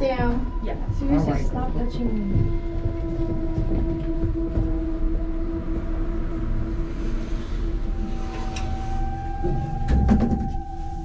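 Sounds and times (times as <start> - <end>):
elevator rumble and hum: 0.0 - 11.0.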